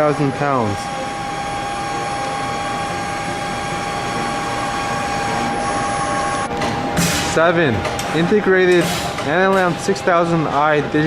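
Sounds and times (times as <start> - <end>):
machining center whine: 0.0 - 11.0.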